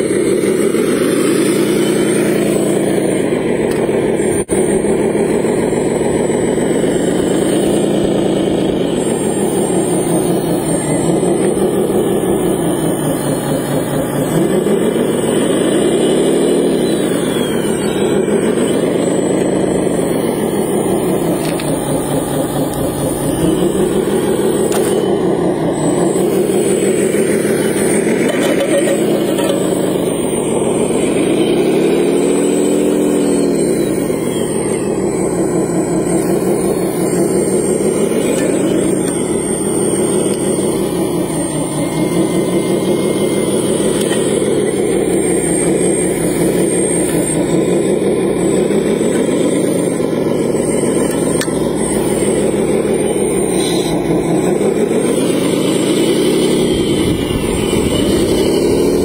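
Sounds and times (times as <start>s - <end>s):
model loader engine-like drone: 0.0s - 59.0s
steady high whine: 0.0s - 59.0s.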